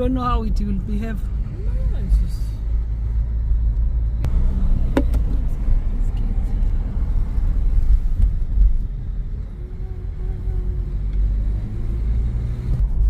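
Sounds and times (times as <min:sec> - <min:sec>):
car rumbling: 0:00.0 - 0:13.0.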